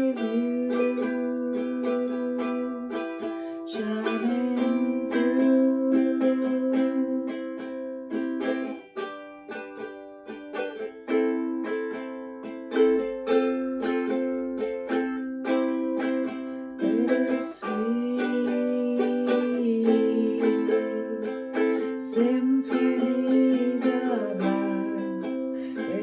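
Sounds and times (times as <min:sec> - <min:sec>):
ukulele strumming chords: 0:00.0 - 0:26.0.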